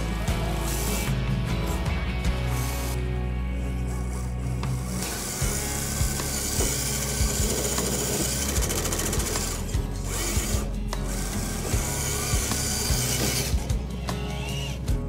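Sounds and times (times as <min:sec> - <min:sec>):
background music with steady beat: 0:00.0 - 0:15.0
rc car electric motors whining: 0:00.0 - 0:15.0.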